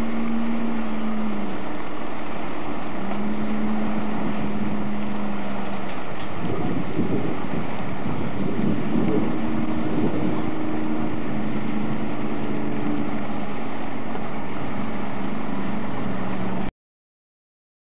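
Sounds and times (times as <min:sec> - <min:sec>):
motorboat engine running: 0:00.0 - 0:16.7
water noise: 0:00.0 - 0:16.7
wind: 0:00.0 - 0:16.7.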